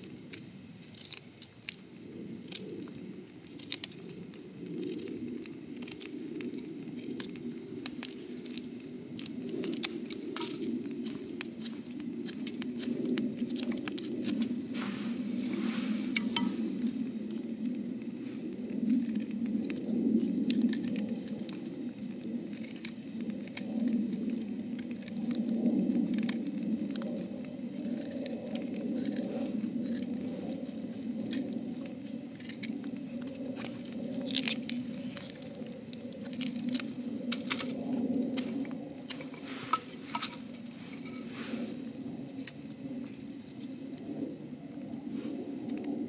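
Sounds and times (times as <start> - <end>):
campfire crackling and snapping: 0.0 - 46.0
low rush of flame: 6.3 - 46.0.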